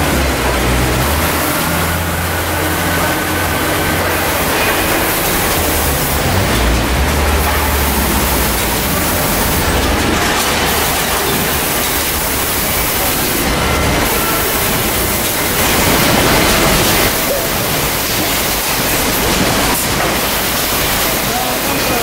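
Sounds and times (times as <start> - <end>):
conveyors and machinery running: 0.0 - 22.0.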